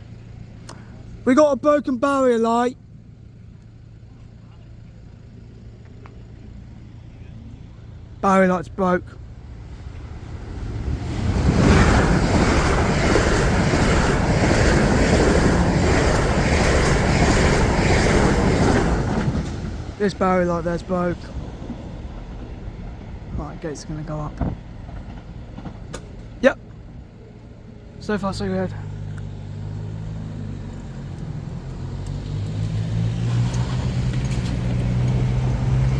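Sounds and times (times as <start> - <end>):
vehicle engine hum: 0.0 - 35.9
train passing: 4.8 - 35.9.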